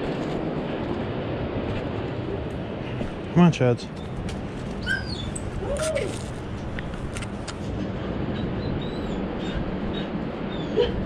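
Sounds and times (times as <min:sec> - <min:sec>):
coastal wind: 0:00.0 - 0:11.0.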